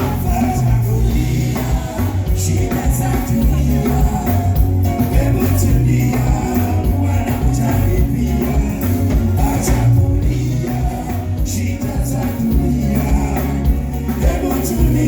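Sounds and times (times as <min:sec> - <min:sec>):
heavy bass line: 0:00.0 - 0:15.0
percussion: 0:00.0 - 0:15.0
person singing: 0:00.0 - 0:15.0.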